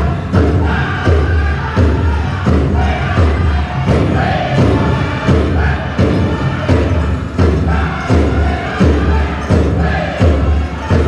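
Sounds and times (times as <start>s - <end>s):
big drum beating: 0.0s - 11.0s
singers' high voices: 0.0s - 11.0s.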